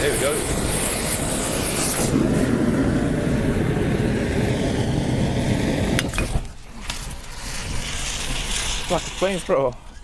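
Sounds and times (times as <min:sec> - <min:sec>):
aerosol can gas jet rushing: 0:00.0 - 0:09.7.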